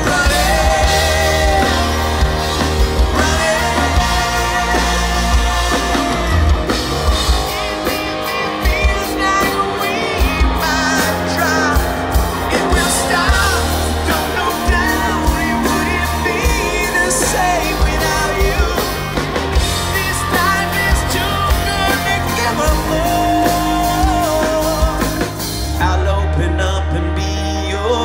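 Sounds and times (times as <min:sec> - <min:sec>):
drum kit: 0:00.0 - 0:28.0
electric guitars: 0:00.0 - 0:28.0
man singing: 0:00.0 - 0:28.0.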